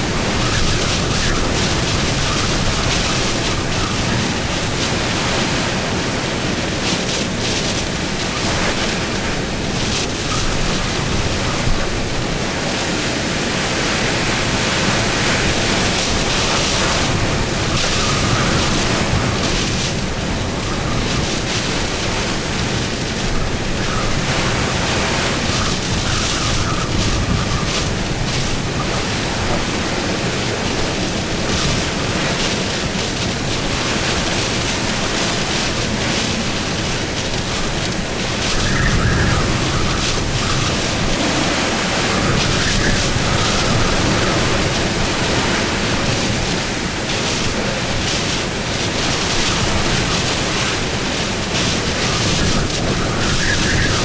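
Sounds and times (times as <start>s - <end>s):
strong wind gusting: 0.0s - 54.0s.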